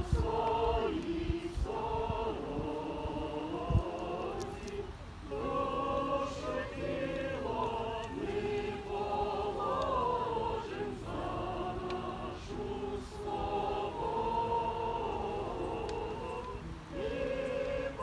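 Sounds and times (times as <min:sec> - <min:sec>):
women singing unaccompanied: 0:00.0 - 0:18.0.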